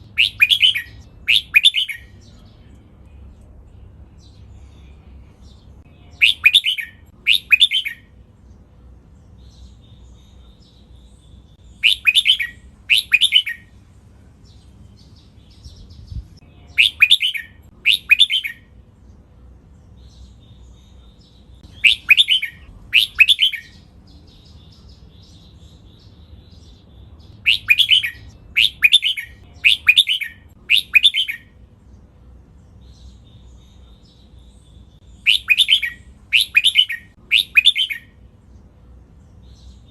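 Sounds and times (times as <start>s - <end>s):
bird warbling song: 0.0s - 13.8s, 14.4s - 32.0s, 32.6s - 39.9s.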